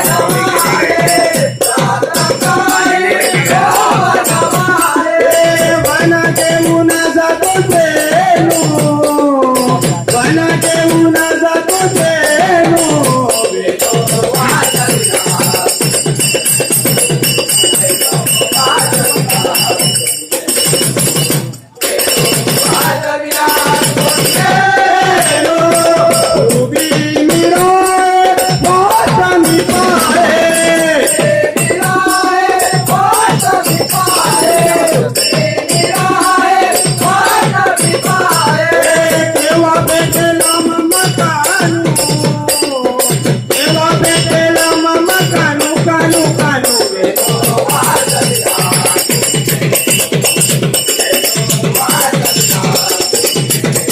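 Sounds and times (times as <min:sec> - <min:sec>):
drum strokes: 0:00.0 - 0:53.9
jingling hand percussion: 0:00.0 - 0:53.9.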